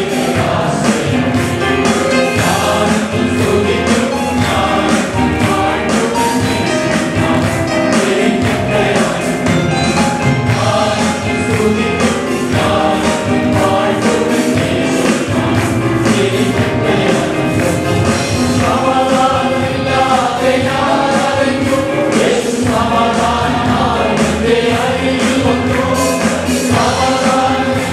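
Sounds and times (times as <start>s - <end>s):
group singing gospel song: 0.0s - 27.9s
instrumental accompaniment with beat: 0.0s - 27.9s.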